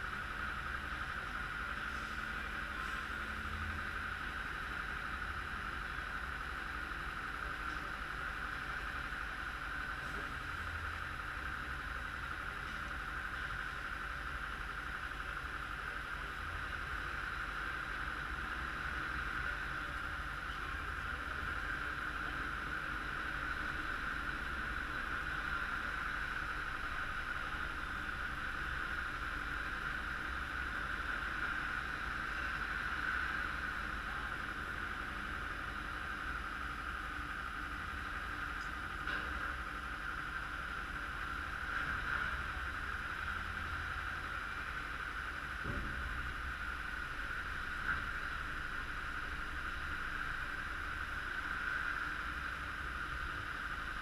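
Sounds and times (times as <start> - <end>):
heavy transporter engine rumble: 0.0 - 54.0
hydraulics whining: 0.0 - 54.0.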